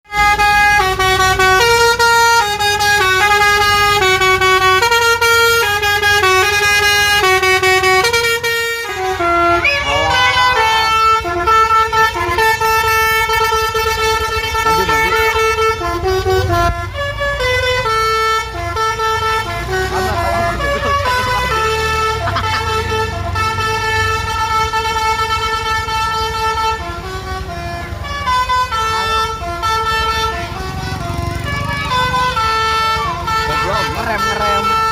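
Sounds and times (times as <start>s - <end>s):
bus multi-tone horn melody: 0.0s - 34.9s
bus engine rumble: 0.1s - 34.9s.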